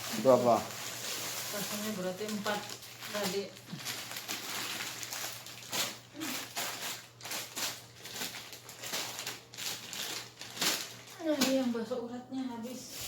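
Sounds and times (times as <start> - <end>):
plastic bags rustling: 0.0 - 12.0, 12.6 - 13.0.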